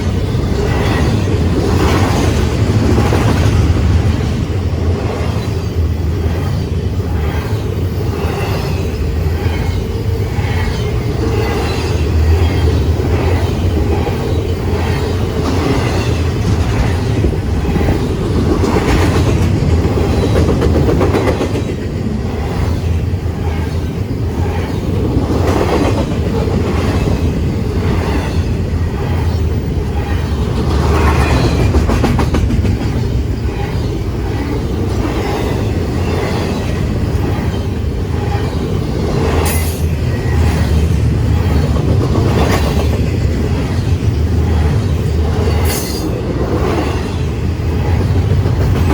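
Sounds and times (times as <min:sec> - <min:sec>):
freight train cars rumbling: 0:00.0 - 0:48.9.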